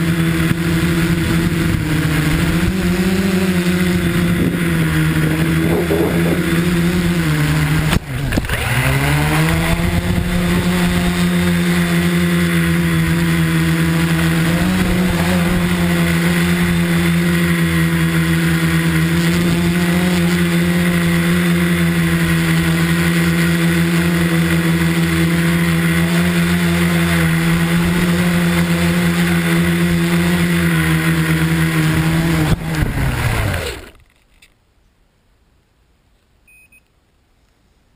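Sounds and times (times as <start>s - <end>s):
drone motors humming: 0.0s - 34.1s.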